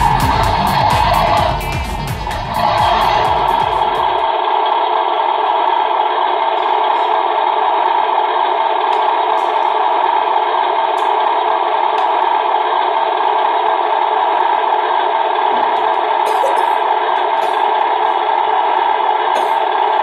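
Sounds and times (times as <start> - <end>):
truck engine sound from small speaker: 0.0 - 20.0.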